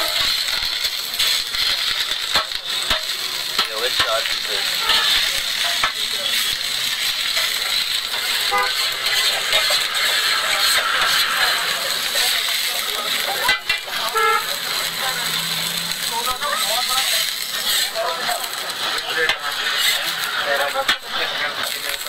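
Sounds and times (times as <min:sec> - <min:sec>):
clicks and clatter: 0:00.0 - 0:14.0, 0:14.8 - 0:22.0
background voices: 0:02.6 - 0:22.0.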